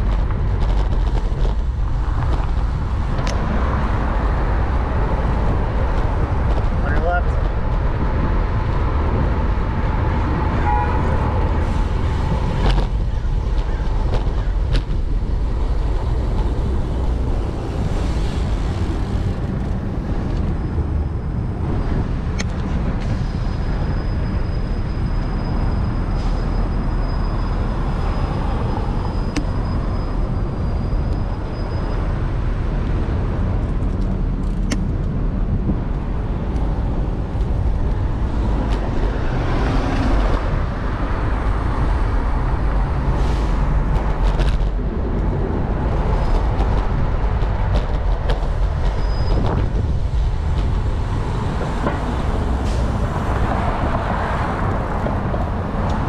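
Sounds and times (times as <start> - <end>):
bicycle riding rumble: 0.0 - 56.0
cars and buses passing: 0.0 - 56.0.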